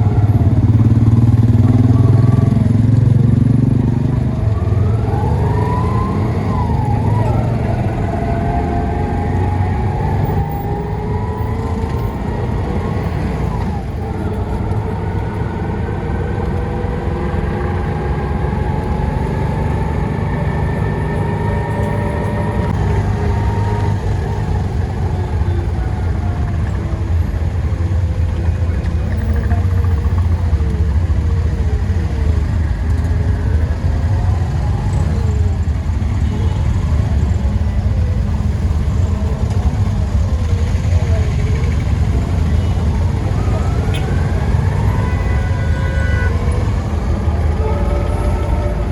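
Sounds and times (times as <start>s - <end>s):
motor vehicle running: 0.0s - 48.9s.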